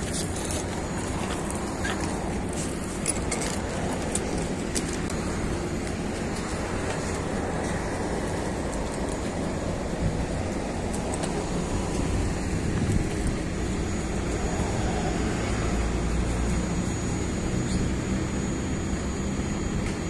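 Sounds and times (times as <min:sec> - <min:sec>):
bus cabin rumble: 0:00.0 - 0:20.0.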